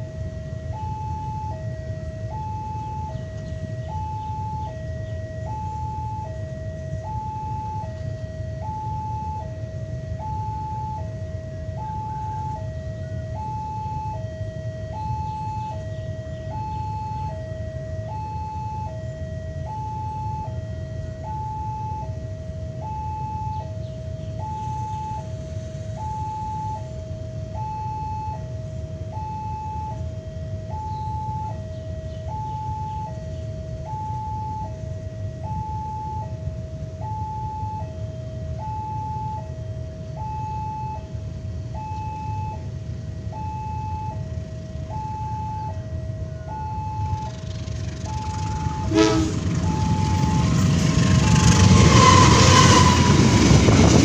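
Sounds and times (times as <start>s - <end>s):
steady low rumble: 0.0s - 54.0s
two-tone crossing warning alarm: 0.0s - 54.0s.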